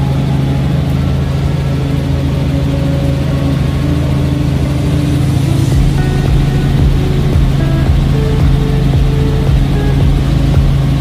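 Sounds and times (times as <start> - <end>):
helicopter engine and rotors droning: 0.0 - 11.0.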